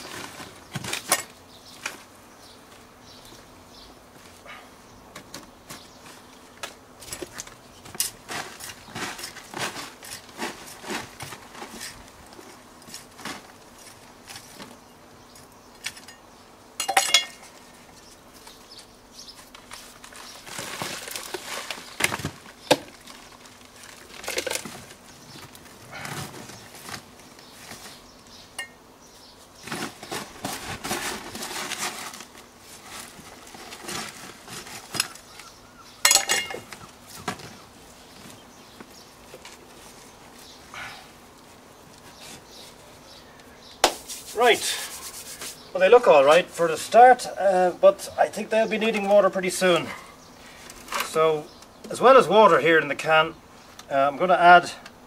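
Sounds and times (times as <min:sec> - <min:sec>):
plastic bag and soil rustling: 0:00.0 - 0:03.5, 0:04.1 - 0:16.1, 0:17.4 - 0:43.2, 0:43.9 - 0:54.8.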